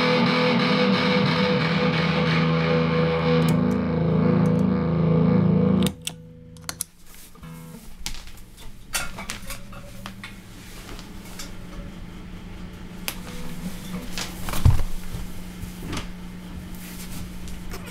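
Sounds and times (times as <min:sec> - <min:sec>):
guitar pedal hum: 0:00.0 - 0:17.9.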